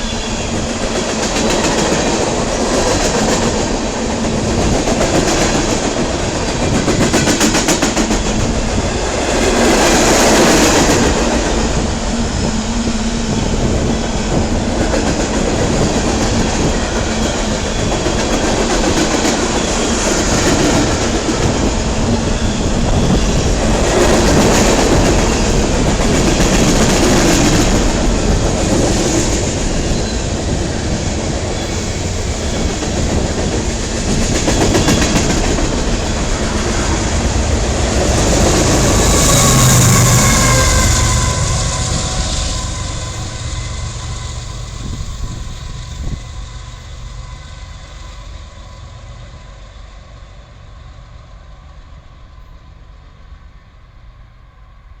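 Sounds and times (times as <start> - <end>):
freight train rolling by on rails: 0.0 - 55.0.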